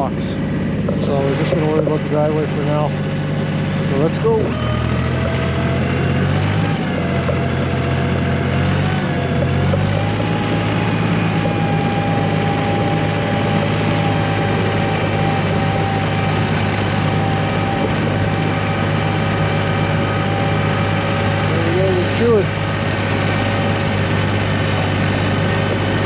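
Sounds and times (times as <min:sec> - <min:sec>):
steady whine: 0:00.0 - 0:26.0
tractor diesel engine running: 0:00.0 - 0:26.0.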